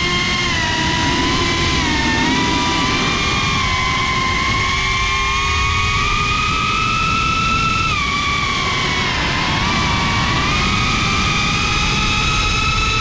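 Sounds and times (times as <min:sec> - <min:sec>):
drone motors whining: 0:00.0 - 0:13.0
propeller wash and wind rushing: 0:00.0 - 0:13.0.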